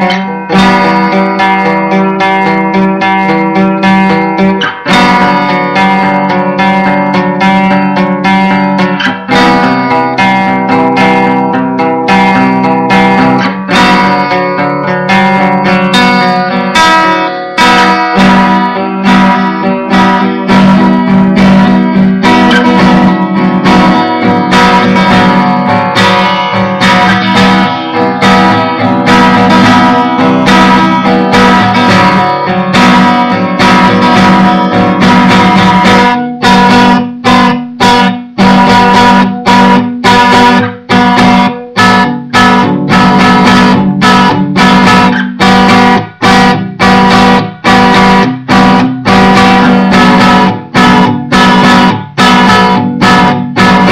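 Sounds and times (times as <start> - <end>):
acoustic guitar strummed and picked: 0.0 - 53.9.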